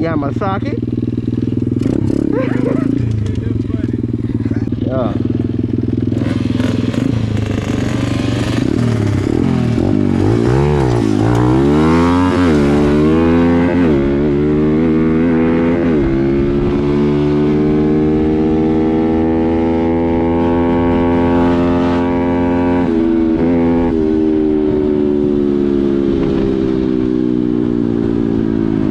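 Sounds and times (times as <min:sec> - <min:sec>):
dirt bike engine revving: 0:00.0 - 0:24.9.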